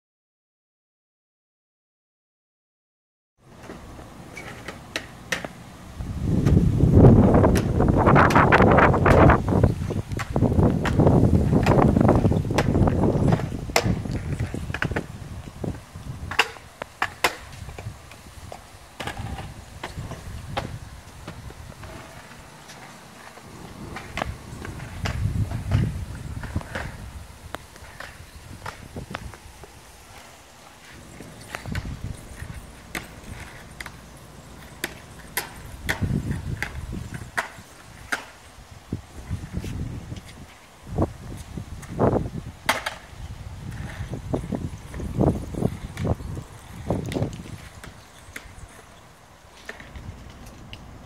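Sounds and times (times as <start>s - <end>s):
wind rumble on microphone: 5.9s - 22.3s, 23.3s - 30.2s, 31.0s - 33.9s, 34.5s - 48.9s, 49.7s - 51.0s.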